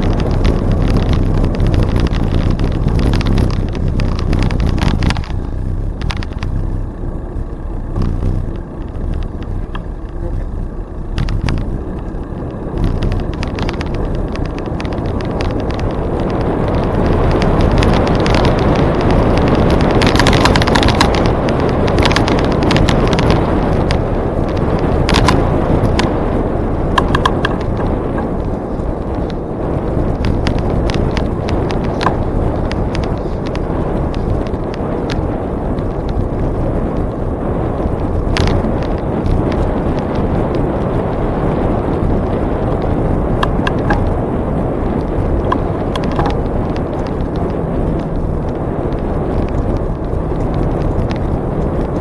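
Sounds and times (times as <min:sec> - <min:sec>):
clicks and rattles: 0:00.0 - 0:37.2, 0:37.8 - 0:40.6, 0:42.7 - 0:44.2, 0:44.9 - 0:52.0
bicycle rolling on trail: 0:00.0 - 0:52.0
wind on microphone: 0:00.0 - 0:52.0.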